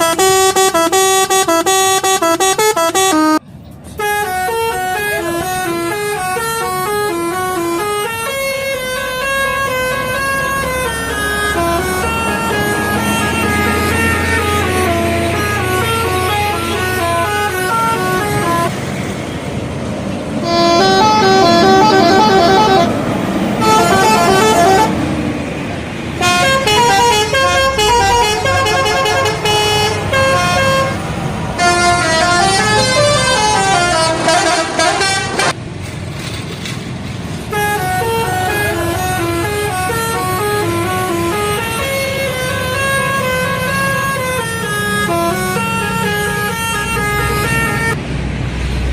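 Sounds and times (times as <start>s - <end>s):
musical bus horns playing melodies: 0.0s - 3.4s, 4.0s - 18.8s, 20.4s - 35.6s, 37.5s - 48.0s.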